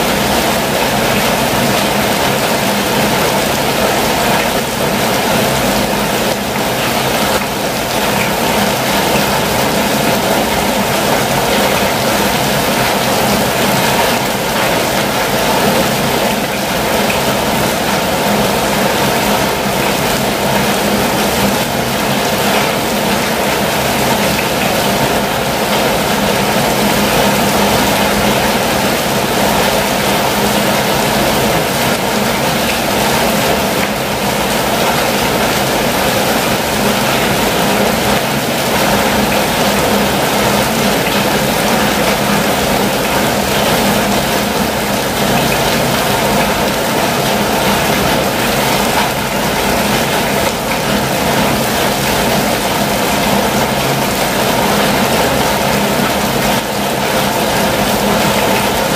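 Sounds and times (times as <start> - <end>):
heavy rain on vehicle roof: 0.0 - 58.9.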